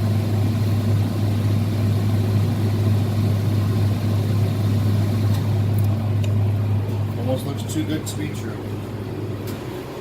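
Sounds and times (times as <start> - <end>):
kitchen machinery humming: 0.0 - 10.0.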